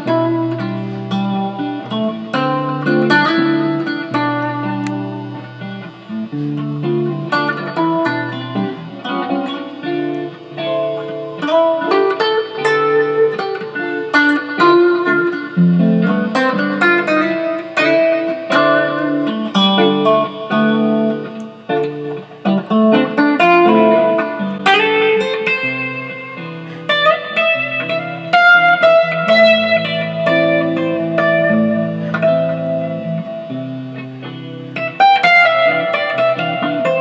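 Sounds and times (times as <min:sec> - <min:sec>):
electric guitar notes and chords: 0:00.0 - 0:37.0.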